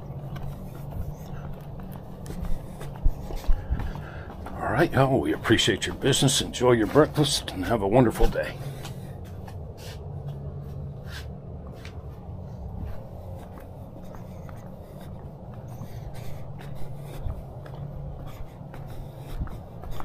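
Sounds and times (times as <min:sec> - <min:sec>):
light clicks and scuffs: 0:00.0 - 0:20.0.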